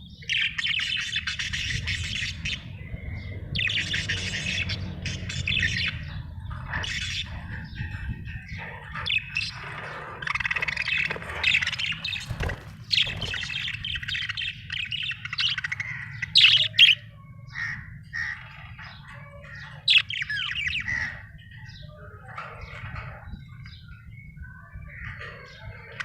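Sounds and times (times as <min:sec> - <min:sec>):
budgerigar warbling and chattering: 0:00.1 - 0:24.0.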